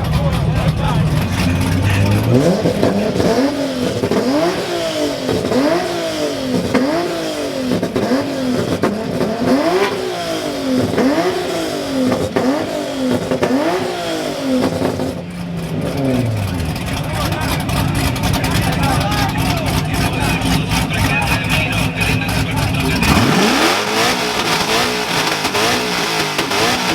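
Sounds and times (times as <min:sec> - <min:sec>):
car engine revving: 0:00.0 - 0:26.9.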